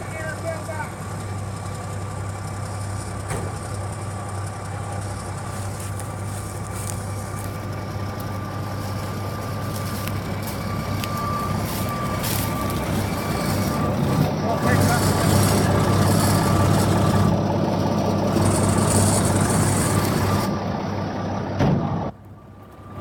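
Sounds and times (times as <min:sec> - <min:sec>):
thin high whine: 0:00.0 - 0:21.2
diesel engine idling: 0:00.0 - 0:23.0.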